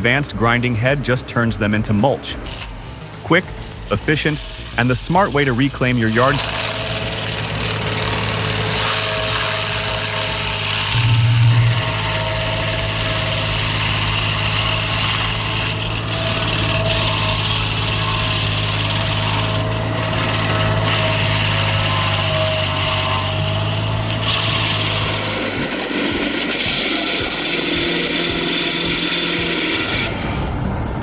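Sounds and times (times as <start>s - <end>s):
grinding hiss: 0.0s - 31.0s
stump grinder engine humming: 0.0s - 31.0s.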